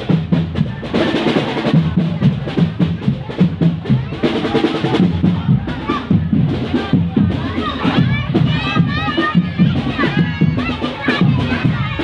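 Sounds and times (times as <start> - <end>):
drum-led percussion music: 0.0 - 12.0
voices: 0.0 - 12.0.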